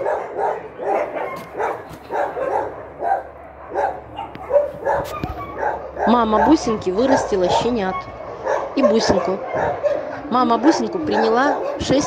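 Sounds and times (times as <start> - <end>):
small dogs yapping: 0.0 - 12.0.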